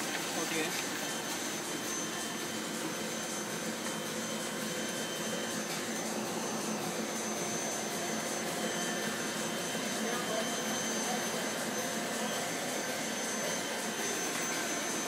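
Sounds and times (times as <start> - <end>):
faint high whine: 0.0 - 15.0
printing press whirring: 0.0 - 15.0.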